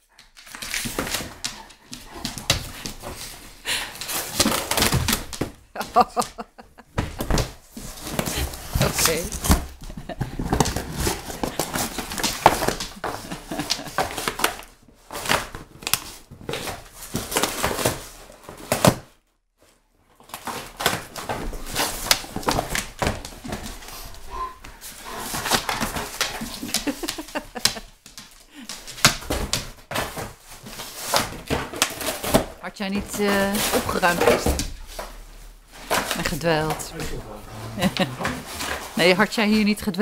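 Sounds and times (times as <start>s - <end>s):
dog tearing cardboard: 0.4s - 5.5s, 7.2s - 19.1s, 20.2s - 27.8s, 28.7s - 36.8s.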